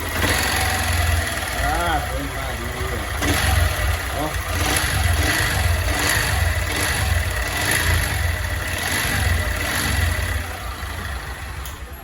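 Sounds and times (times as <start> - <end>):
motorcycle engine rattling: 0.0 - 12.0.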